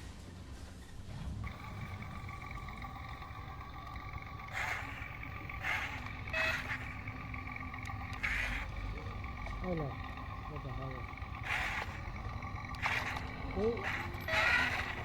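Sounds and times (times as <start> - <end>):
machine motor whining: 1.4 - 15.0.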